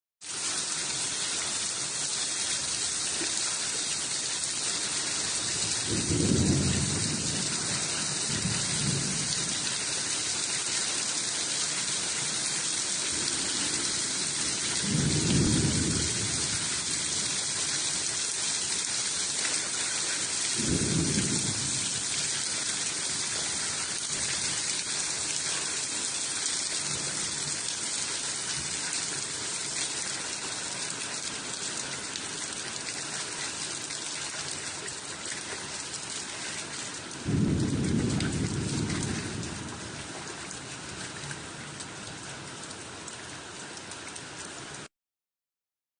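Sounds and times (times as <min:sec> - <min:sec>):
steady rain hiss: 0:00.2 - 0:44.9.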